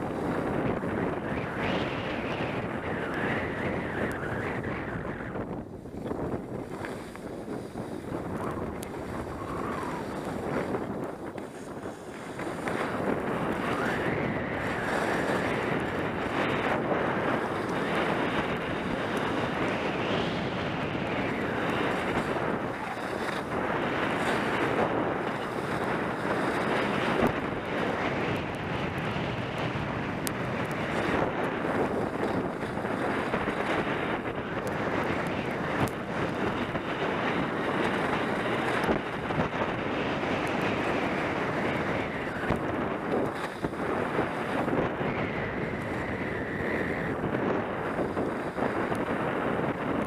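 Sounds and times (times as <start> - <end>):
wind rushing over microphone: 0.0 - 50.0
skis sliding over packed snow: 5.4 - 46.0, 46.7 - 50.0.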